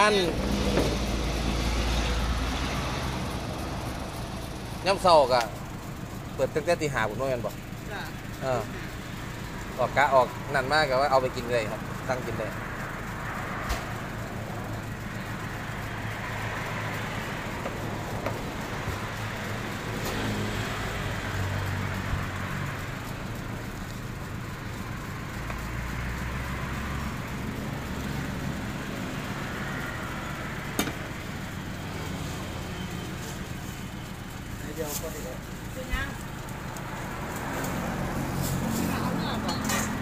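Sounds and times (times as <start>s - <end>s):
low rumble of road traffic: 0.0s - 40.0s.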